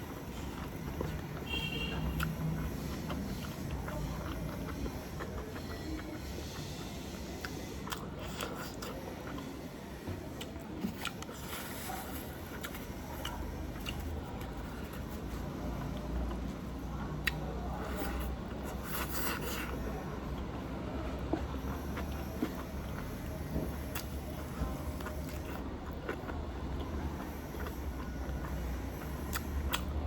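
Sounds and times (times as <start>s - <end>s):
chewing and biting: 0.1s - 9.6s, 10.4s - 30.0s.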